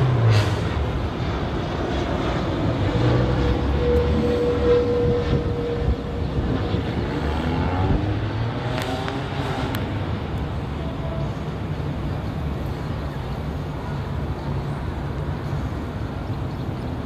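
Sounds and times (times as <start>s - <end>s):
jet engines rumbling: 0.0s - 17.0s
steady engine whine: 0.0s - 17.0s.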